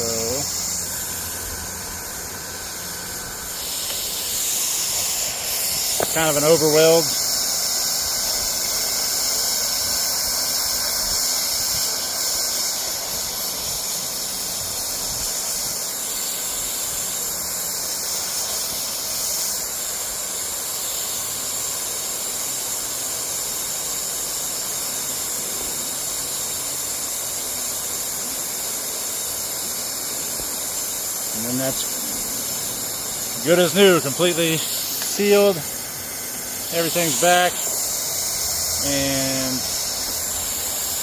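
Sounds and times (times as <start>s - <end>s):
hot-air welder hissing: 0.0s - 41.0s.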